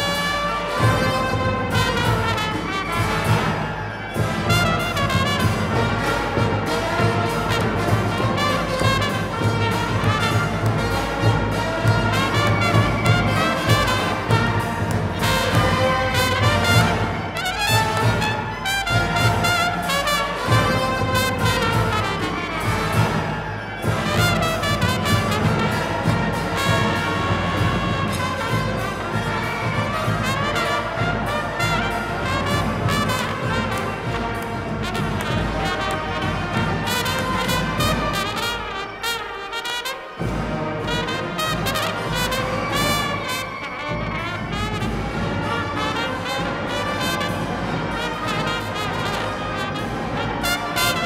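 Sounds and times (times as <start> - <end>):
trumpets and trombones: 0.0 - 51.0.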